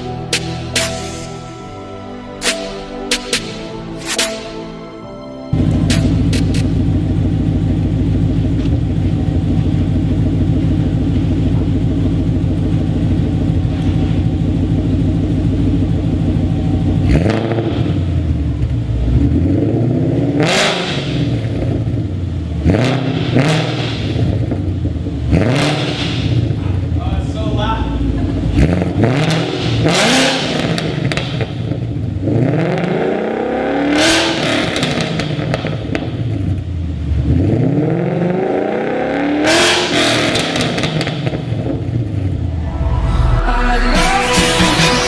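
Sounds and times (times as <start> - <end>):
car engine idling and revving: 5.5 - 45.0.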